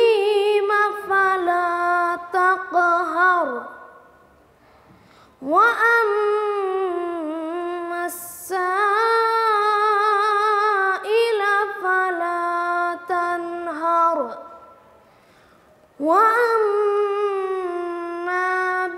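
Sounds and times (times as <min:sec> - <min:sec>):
high voice chanting recitation: 0:00.0 - 0:04.1, 0:05.4 - 0:14.8, 0:16.0 - 0:18.9.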